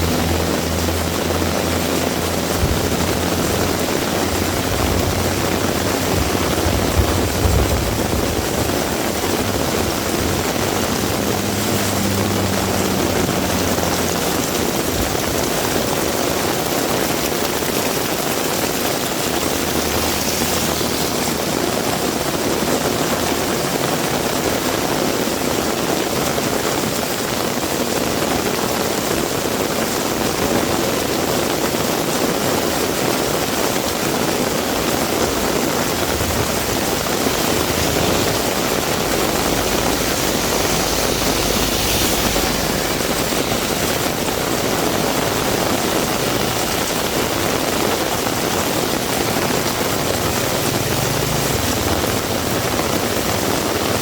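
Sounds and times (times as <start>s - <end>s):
vehicle engine humming low: 0.0s - 24.6s, 33.6s - 54.0s
heavy rain falling: 0.0s - 54.0s.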